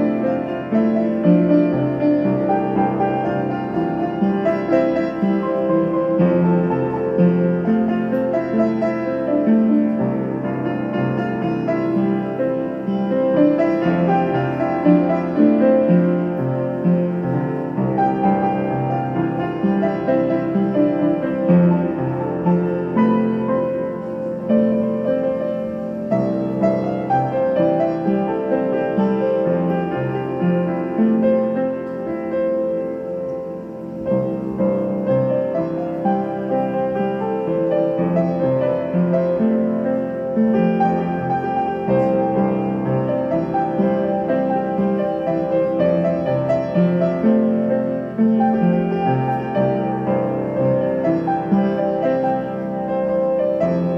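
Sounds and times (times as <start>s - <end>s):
piano music: 0.0s - 53.9s.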